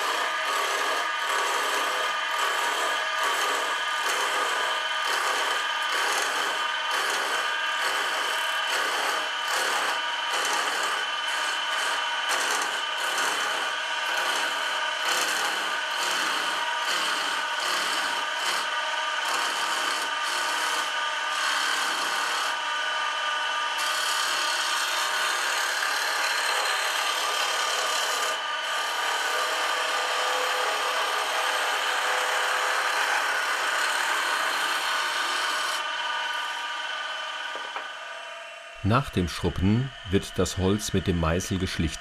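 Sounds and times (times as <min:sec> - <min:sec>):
gouge rasping on spinning wood: 0:00.0 - 0:22.6, 0:23.6 - 0:35.8
wood lathe whine: 0:00.0 - 0:42.0.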